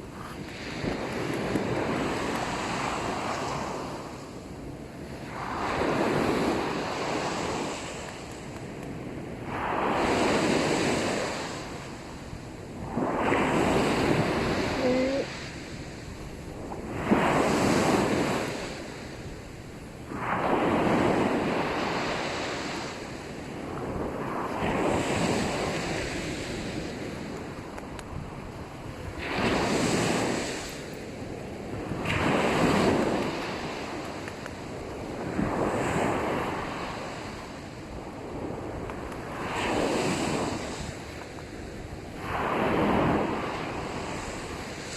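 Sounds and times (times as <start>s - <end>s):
sea waves breaking on sand: 0.0s - 4.4s, 5.0s - 44.9s.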